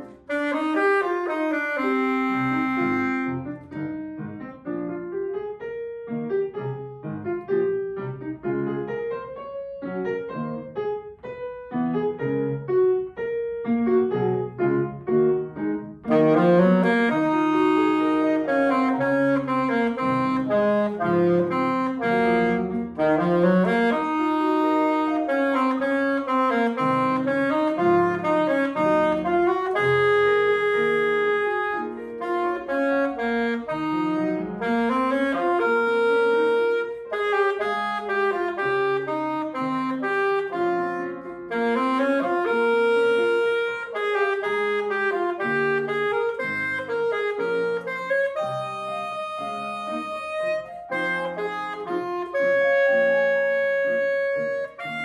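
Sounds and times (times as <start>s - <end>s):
alto saxophone: 0.0s - 5.0s, 14.0s - 55.0s
grand piano: 0.0s - 55.0s.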